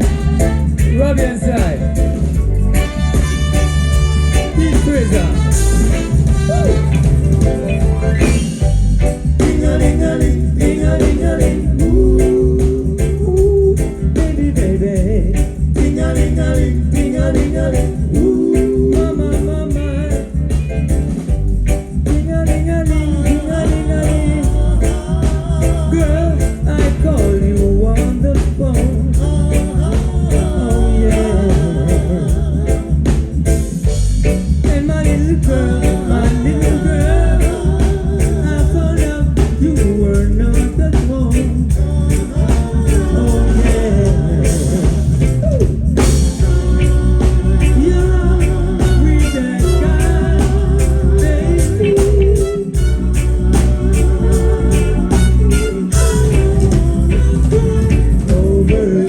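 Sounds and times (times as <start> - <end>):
live reggae band: 0.0 - 59.0.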